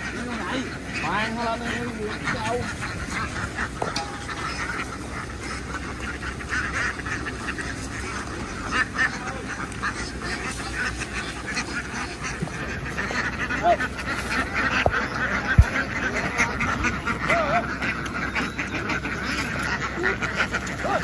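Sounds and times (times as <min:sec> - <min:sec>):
ducks quacking: 0:00.0 - 0:21.0
steady low hum: 0:00.0 - 0:21.0.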